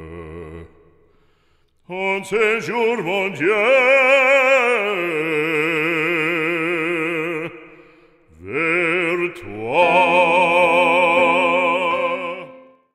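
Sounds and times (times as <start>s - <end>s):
operatic man singing: 0.0s - 0.9s, 1.8s - 12.9s.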